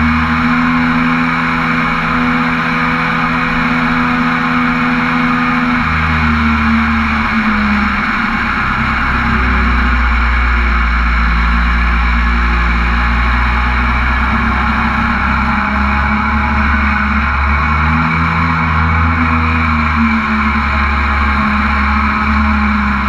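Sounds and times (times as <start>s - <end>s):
jet boat engine running: 0.0s - 23.0s.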